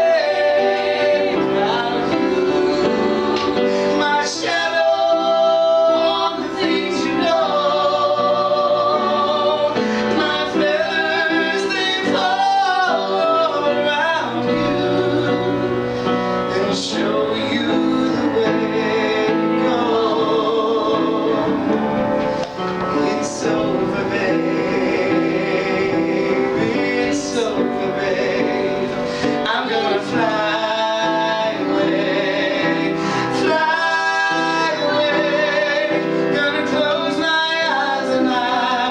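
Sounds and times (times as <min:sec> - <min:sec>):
song with sung vocals: 0:00.0 - 0:38.9.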